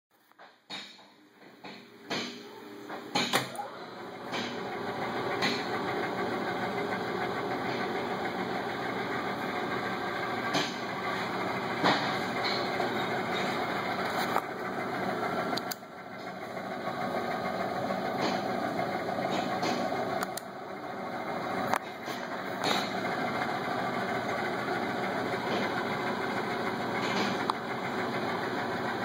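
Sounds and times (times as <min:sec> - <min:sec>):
lathe humming: 0:02.0 - 0:29.0.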